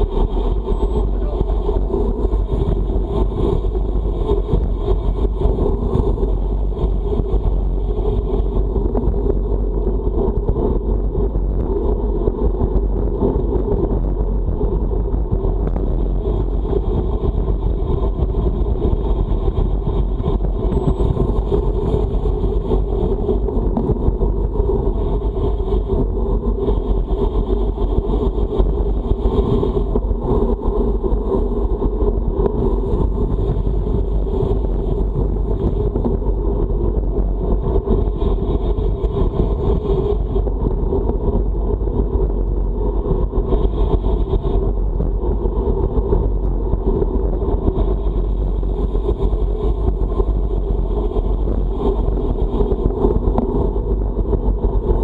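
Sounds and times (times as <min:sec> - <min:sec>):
bike rolling noise: 0:00.0 - 0:55.0
low rumble: 0:00.0 - 0:55.0
wind rushing on microphone: 0:00.0 - 0:55.0.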